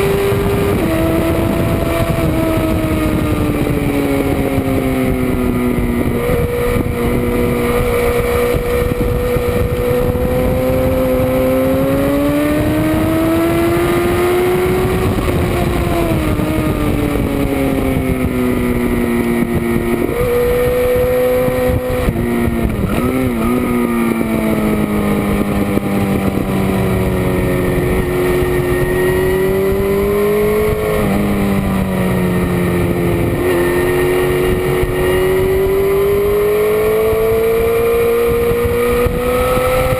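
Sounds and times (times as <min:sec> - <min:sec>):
motorcycle engine racing: 0:00.0 - 0:39.9.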